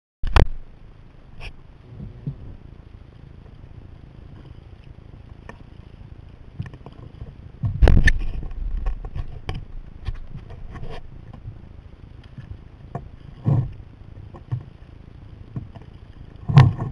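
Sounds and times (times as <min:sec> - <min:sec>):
low rush of wind and water: 0:00.2 - 0:16.9
water splashing against kayak hull: 0:01.4 - 0:16.9.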